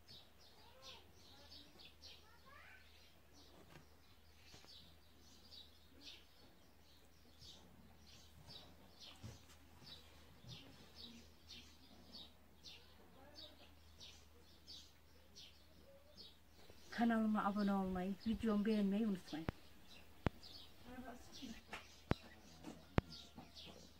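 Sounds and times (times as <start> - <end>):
small bird chirping: 0.0 - 23.9.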